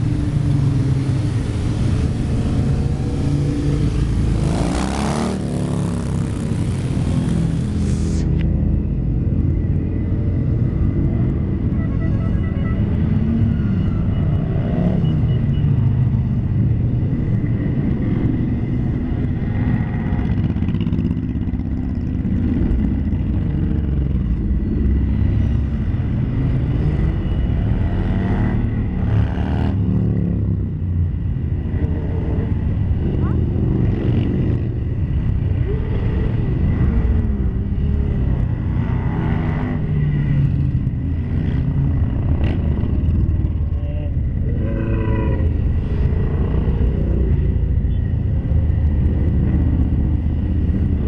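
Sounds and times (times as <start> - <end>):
motorcycles passing: 0.0 - 51.0.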